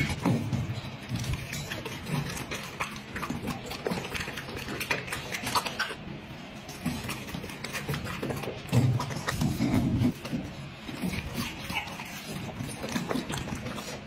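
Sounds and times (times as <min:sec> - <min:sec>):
dog chewing and lip-smacking: 0:00.0 - 0:14.0.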